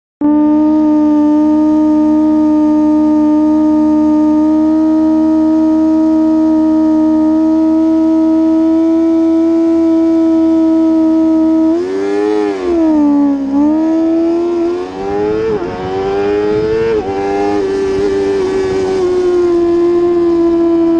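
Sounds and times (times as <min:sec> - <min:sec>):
motorcycle engine at high revs: 0:00.2 - 0:20.9.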